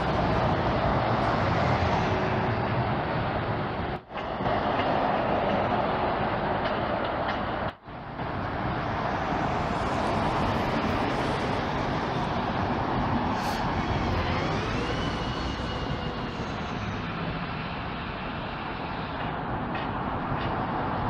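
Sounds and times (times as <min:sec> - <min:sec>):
buses passing: 0:00.0 - 0:21.0.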